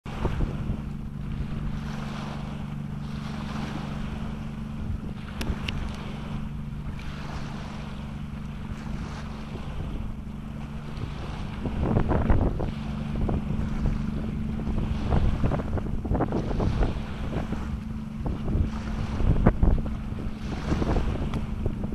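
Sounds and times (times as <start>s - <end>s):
low hum: 0.1s - 21.9s
wind buffeting microphone: 0.1s - 21.9s.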